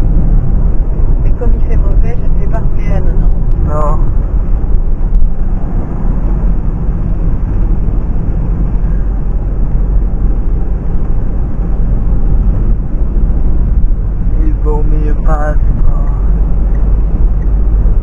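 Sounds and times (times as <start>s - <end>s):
in-cabin road rumble: 0.0s - 18.0s.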